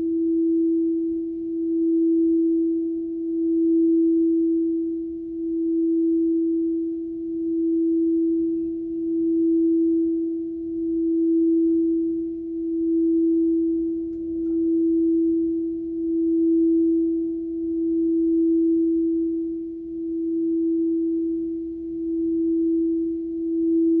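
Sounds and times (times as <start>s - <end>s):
sustained pure tone: 0.0s - 24.0s.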